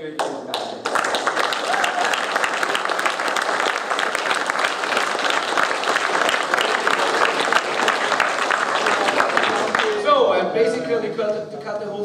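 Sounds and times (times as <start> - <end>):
crowd applauding: 0.2 - 10.1.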